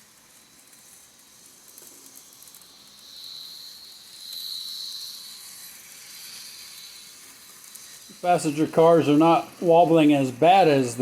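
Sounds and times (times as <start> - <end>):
model train wheels hissing: 0.0 - 11.0.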